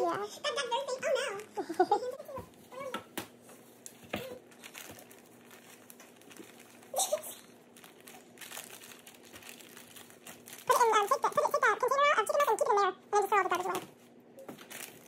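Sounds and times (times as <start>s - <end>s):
plastic bag and paper crinkling: 0.1s - 2.9s, 3.7s - 12.6s, 13.4s - 15.0s.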